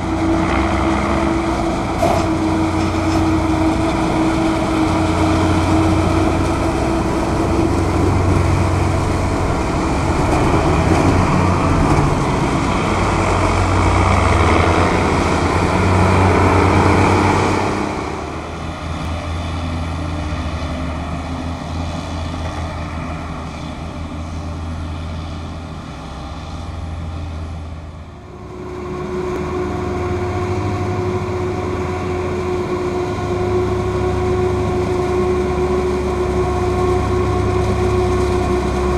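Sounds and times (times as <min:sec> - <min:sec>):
diesel farm machinery running: 0:00.0 - 0:38.9.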